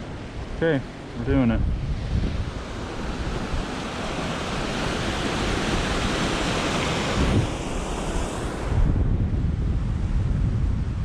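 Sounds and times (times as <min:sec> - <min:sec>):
stream rushing: 0:00.0 - 0:08.9
wind buffeting microphone: 0:00.0 - 0:11.0.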